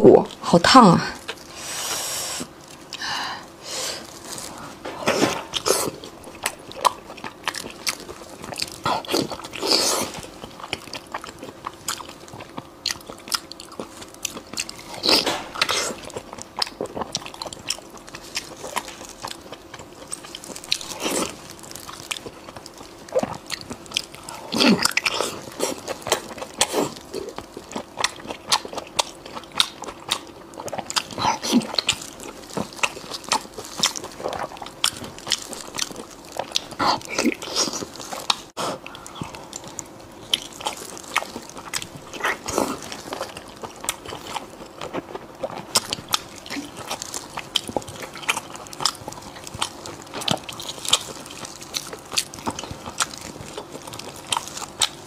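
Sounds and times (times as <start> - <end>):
chewing meat with wet mouth sounds: 5.3 - 55.0.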